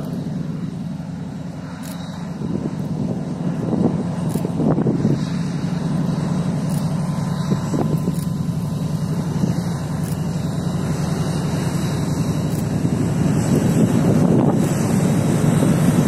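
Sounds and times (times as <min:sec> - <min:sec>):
diesel locomotives droning: 0:00.0 - 0:16.0.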